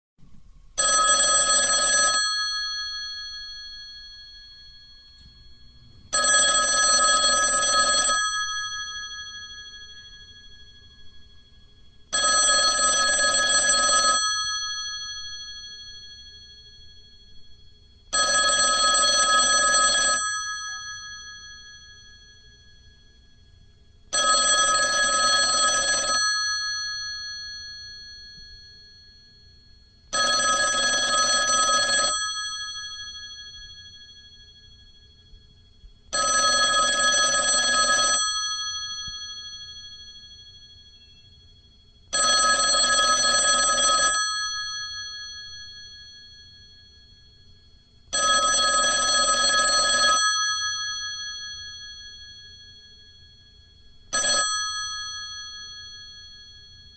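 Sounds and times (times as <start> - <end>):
telephone bell ringing: 0.8 - 35.5, 36.1 - 56.9.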